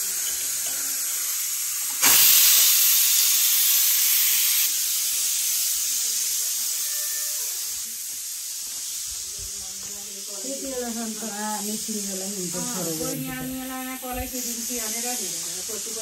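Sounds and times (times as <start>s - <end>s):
pressure cooker steam hissing: 0.0s - 16.0s.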